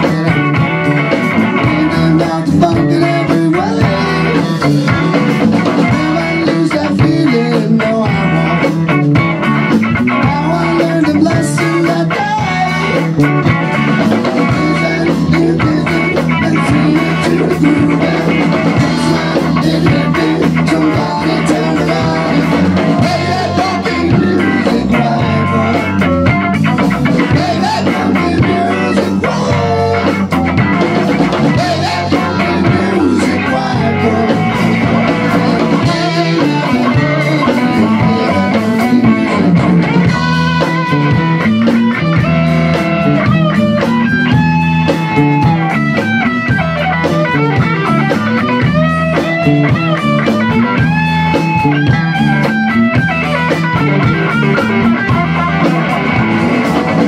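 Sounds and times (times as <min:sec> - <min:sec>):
electric guitar lead lines: 0:00.0 - 0:57.0
rock band playing live: 0:00.0 - 0:57.0.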